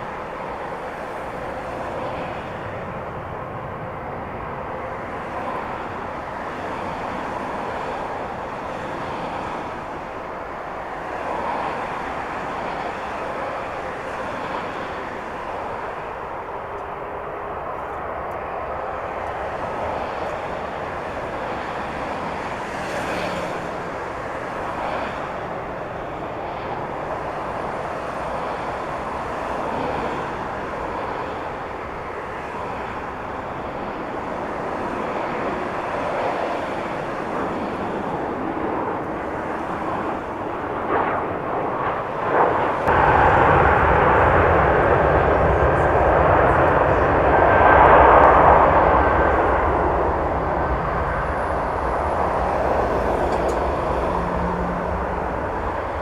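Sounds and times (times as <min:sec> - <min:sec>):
jet engines rushing: 0:00.0 - 0:56.0.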